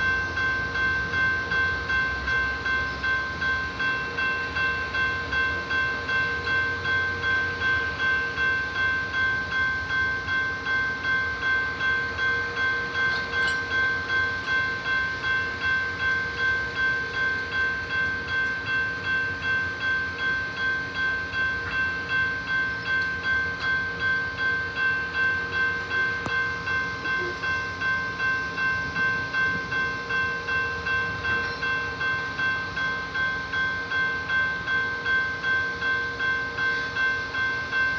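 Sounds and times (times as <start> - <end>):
crossing warning bell ringing: 0.0 - 37.9.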